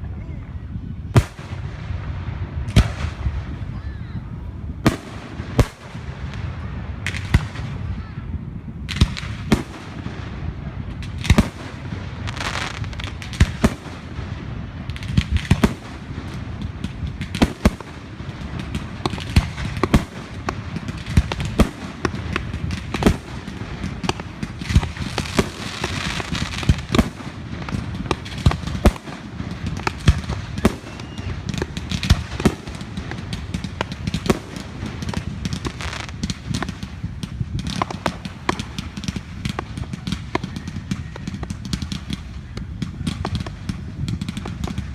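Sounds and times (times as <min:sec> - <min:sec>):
fireworks crackling: 0:00.0 - 0:44.9
fireworks bangs: 0:01.0 - 0:44.9.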